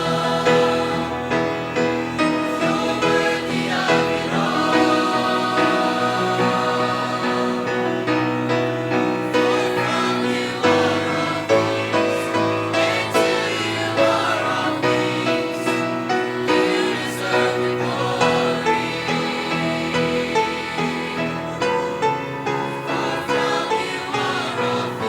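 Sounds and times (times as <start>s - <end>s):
choir singing gospel song: 0.0s - 25.0s.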